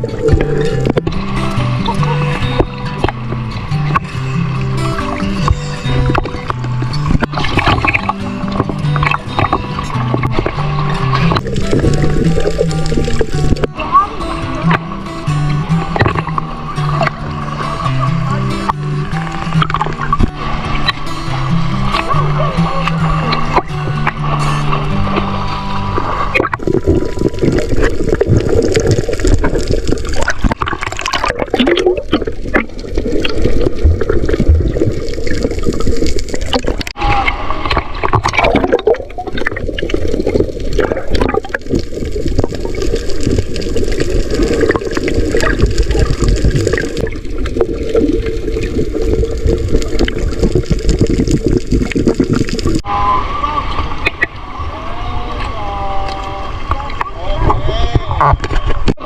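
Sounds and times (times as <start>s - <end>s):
seawater sloshing and gurgling: 0.0s - 59.0s
water bubbling: 0.0s - 59.0s.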